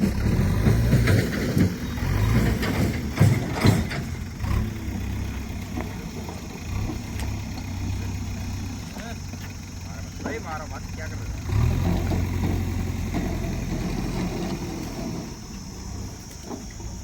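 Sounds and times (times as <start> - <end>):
engine running at low speed: 0.0 - 17.0.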